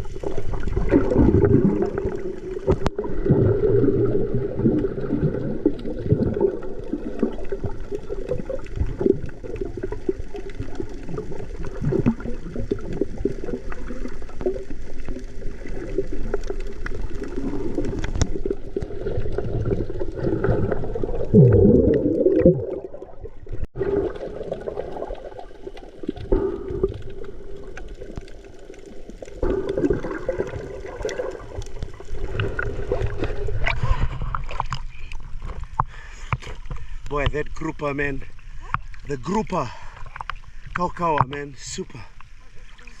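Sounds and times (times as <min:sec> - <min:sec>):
water gurgling swirl: 0:00.0 - 0:35.8
muffled underwater sloshing and bubbling: 0:00.0 - 0:43.0.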